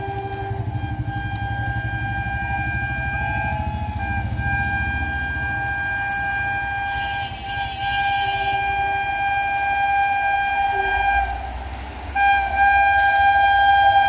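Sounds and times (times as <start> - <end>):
locomotive horn blast: 0.0 - 14.0
train rumbling at speed: 0.0 - 14.0.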